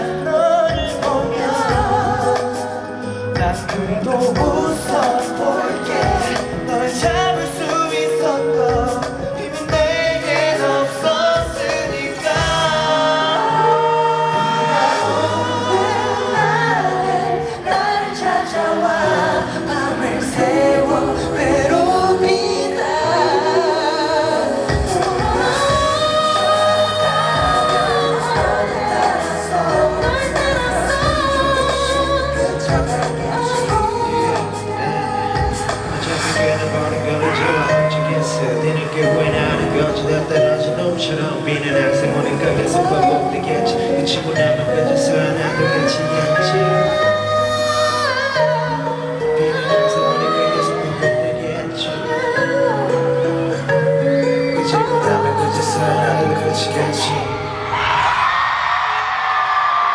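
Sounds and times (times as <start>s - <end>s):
man singing into microphone: 0.0s - 2.4s, 3.1s - 16.5s, 19.0s - 31.2s, 35.5s - 48.5s, 49.3s - 57.6s
amplified backing music: 0.0s - 59.9s.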